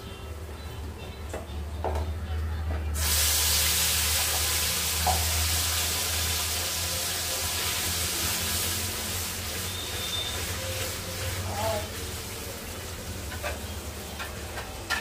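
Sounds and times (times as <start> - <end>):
paste sizzling in hot oil: 3.0 - 15.0.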